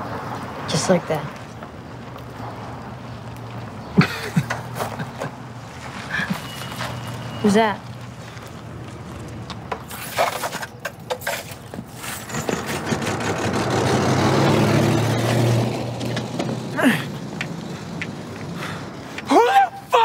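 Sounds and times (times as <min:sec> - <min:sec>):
car engine and tyres passing: 0:00.0 - 0:10.8, 0:11.4 - 0:19.4.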